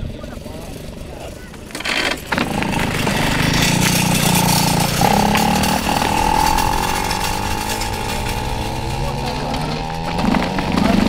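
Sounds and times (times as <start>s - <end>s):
kart engines buzzing: 0.0s - 11.0s.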